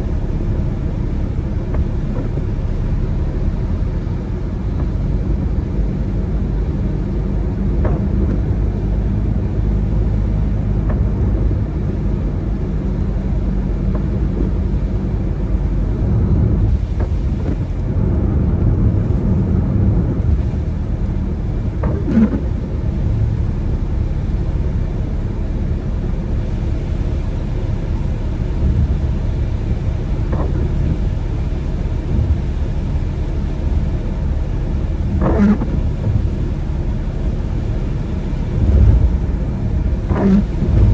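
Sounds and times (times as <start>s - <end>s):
car driving on wet road: 0.0s - 40.9s.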